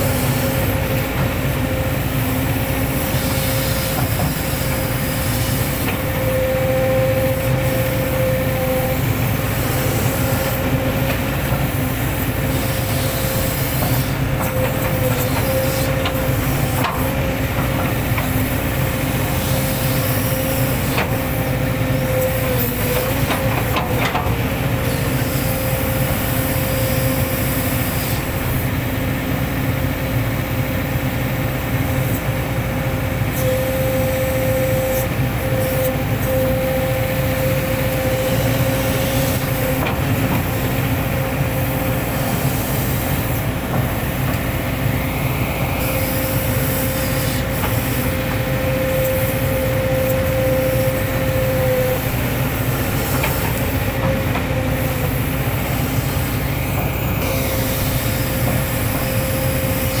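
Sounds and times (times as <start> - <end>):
excavator diesel engine running: 0.0 - 60.0
hydraulic whine: 0.0 - 60.0.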